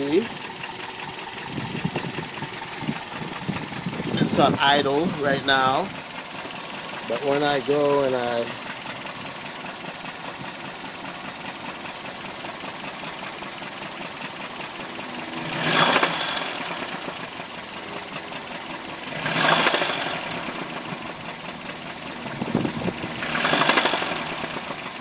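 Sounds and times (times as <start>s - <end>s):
engine idling with knock: 0.0s - 25.0s
engine revving: 0.0s - 25.0s.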